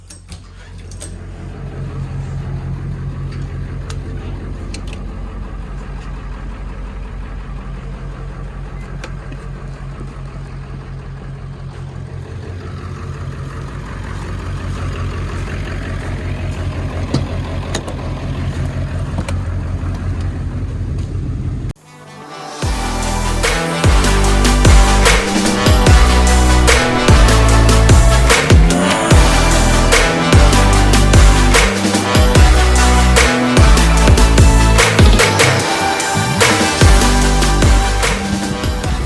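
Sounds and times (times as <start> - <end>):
vehicle engine running: 0.0 - 21.9, 22.6 - 39.0.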